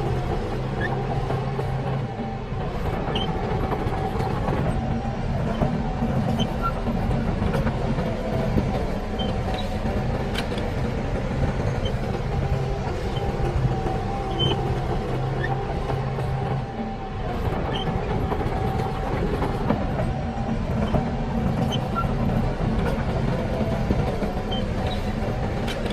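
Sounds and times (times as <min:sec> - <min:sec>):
diesel engine under load: 0:00.0 - 0:25.9.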